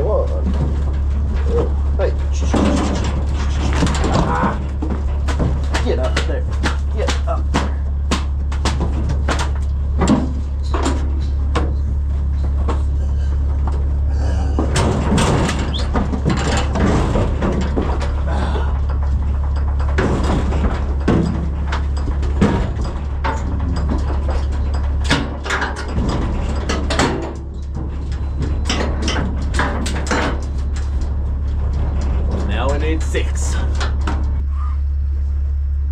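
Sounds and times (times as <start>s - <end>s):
bangs and thumps: 0.0s - 34.4s
hooves clattering on metal floor: 0.0s - 34.5s
low engine hum: 0.0s - 35.9s.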